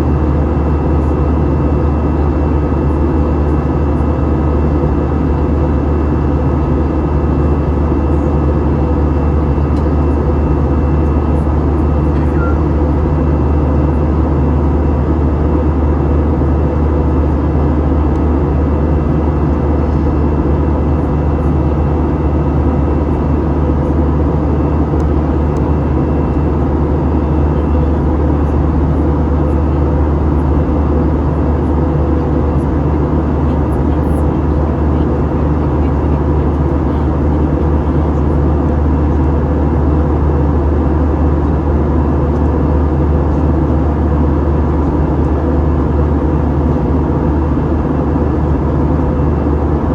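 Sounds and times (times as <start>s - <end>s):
jet cabin engine drone: 0.0s - 49.9s.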